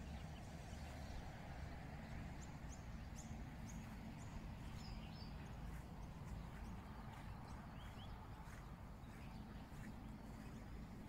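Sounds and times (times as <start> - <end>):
low background rumble: 0.0 - 11.0
small birds chirping: 0.0 - 11.0.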